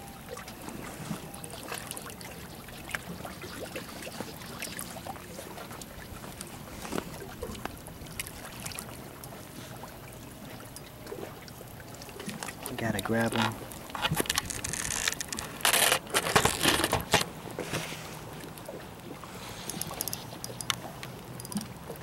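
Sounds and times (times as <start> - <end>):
water lapping against rocks: 0.0 - 22.0.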